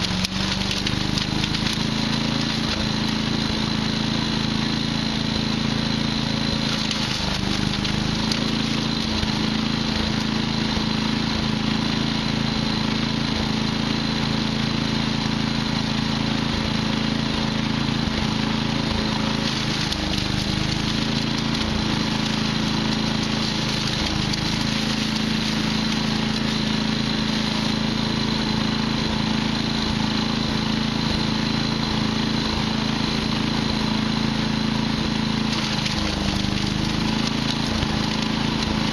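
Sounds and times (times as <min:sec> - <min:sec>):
wood chipper engine humming: 0:00.0 - 0:38.9.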